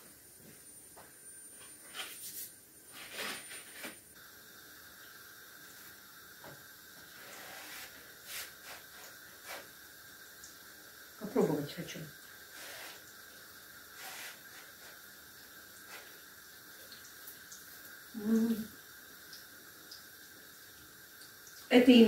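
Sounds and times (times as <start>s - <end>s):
dough frying in oil: 0.0s - 22.0s.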